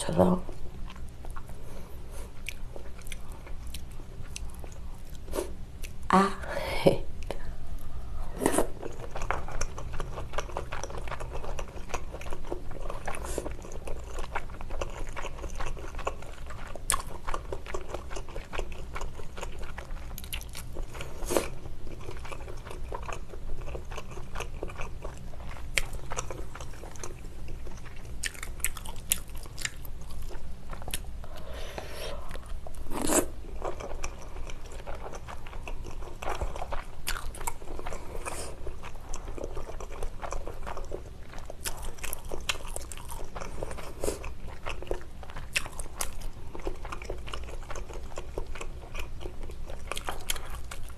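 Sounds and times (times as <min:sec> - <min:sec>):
person chewing and biting food: 0:08.4 - 0:50.9.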